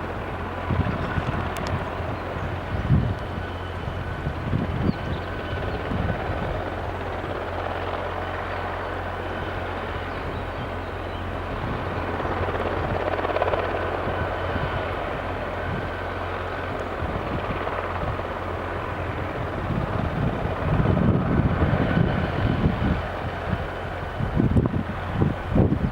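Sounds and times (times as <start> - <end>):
helicopter rotors and turbine drone: 0.0 - 25.9
wind buffeting microphone: 0.0 - 25.9.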